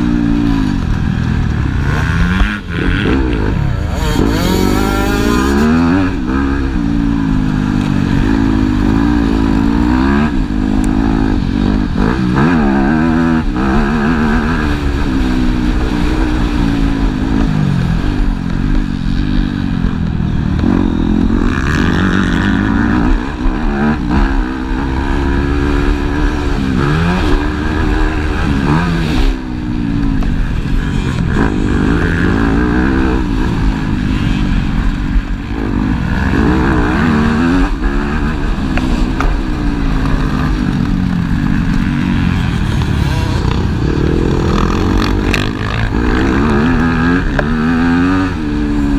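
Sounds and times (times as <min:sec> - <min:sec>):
motocross engines revving: 0:00.0 - 0:48.9.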